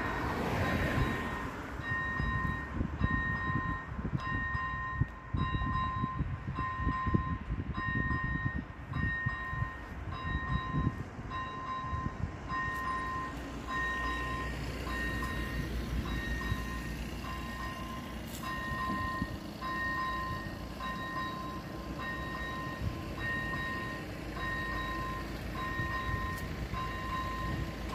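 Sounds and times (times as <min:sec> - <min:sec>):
train rumbling: 0:00.0 - 0:27.9
level crossing bell dinging: 0:01.0 - 0:27.6.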